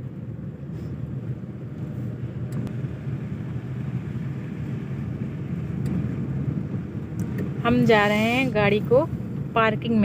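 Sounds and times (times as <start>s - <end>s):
car rumbling on wet road: 0.0s - 10.0s.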